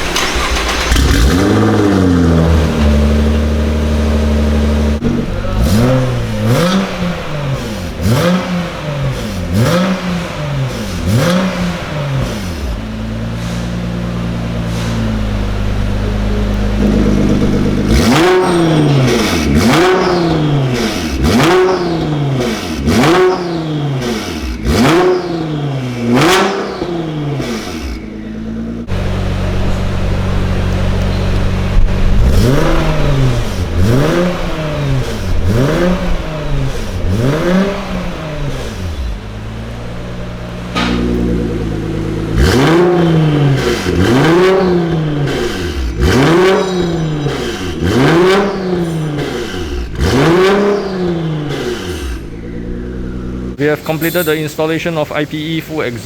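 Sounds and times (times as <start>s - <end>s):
car engine revving in blips: 0.0s - 55.4s
car engine idling: 0.0s - 56.0s.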